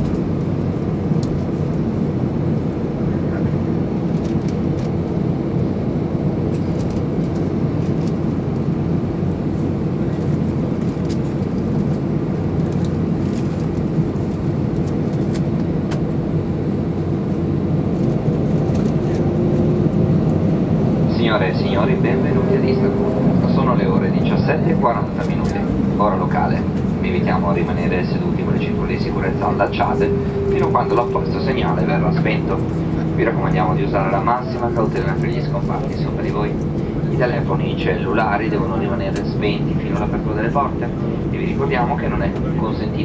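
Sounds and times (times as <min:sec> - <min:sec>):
aircraft cabin rumble and hum: 0:00.0 - 0:43.0.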